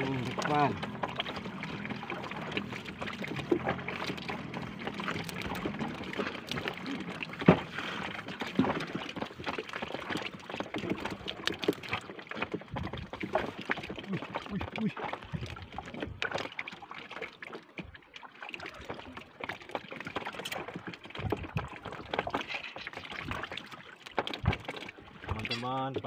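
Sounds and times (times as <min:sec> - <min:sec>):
knocks and clicks on boat: 0:00.0 - 0:18.0, 0:18.6 - 0:26.0
water sloshing and splashing: 0:00.0 - 0:26.0.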